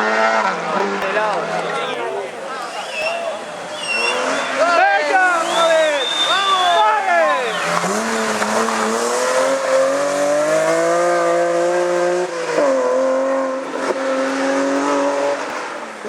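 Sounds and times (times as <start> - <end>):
rally car engine pulling: 0.0 - 16.0.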